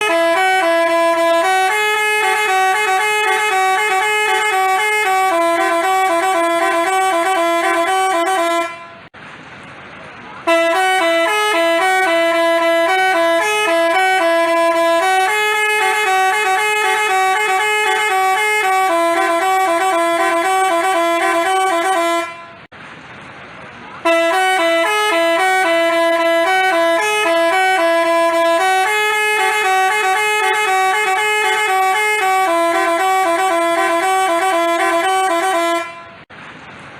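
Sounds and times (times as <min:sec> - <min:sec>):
multi-tone horn melody: 0:00.0 - 0:09.1, 0:10.4 - 0:22.7, 0:24.0 - 0:36.3.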